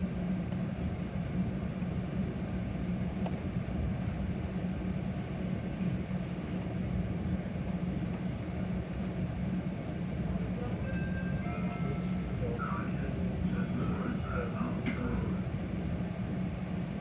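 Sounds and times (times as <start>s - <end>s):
train rumbling from inside car: 0.0s - 17.0s.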